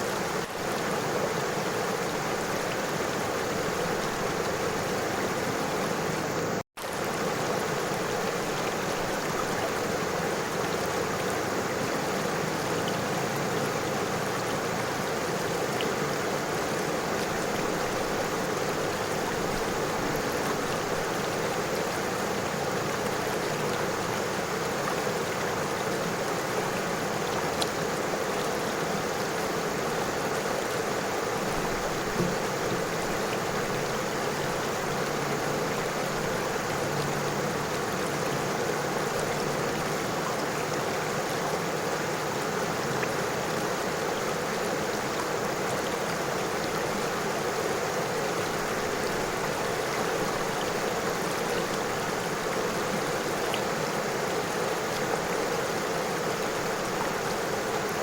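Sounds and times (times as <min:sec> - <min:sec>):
faint water splashes: 0:00.0 - 0:58.0
river water flowing over stones: 0:00.0 - 0:58.0.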